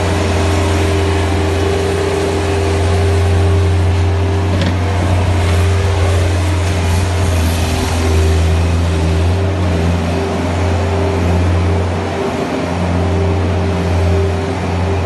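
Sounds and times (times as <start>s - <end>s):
loader engine running: 0.0s - 15.0s.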